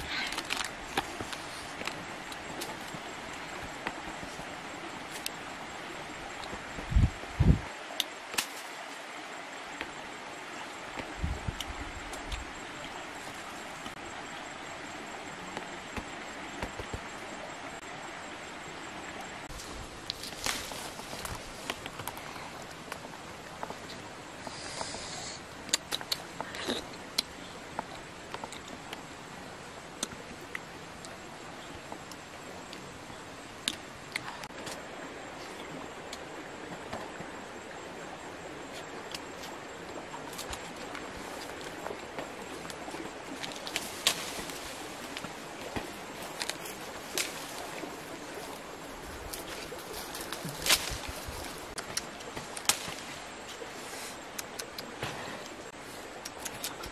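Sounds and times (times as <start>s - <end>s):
outdoor background hiss: 0.0s - 56.9s.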